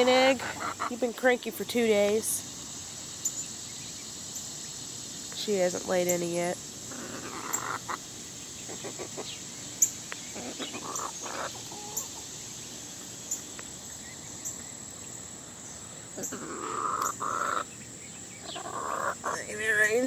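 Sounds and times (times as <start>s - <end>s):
chickens clucking: 0.0s - 3.4s, 5.7s - 20.0s.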